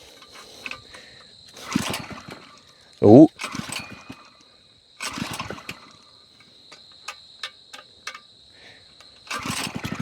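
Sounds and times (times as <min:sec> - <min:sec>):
small engine chugging: 0:00.0 - 0:08.1, 0:09.0 - 0:10.0
crickets chirping: 0:00.0 - 0:10.0.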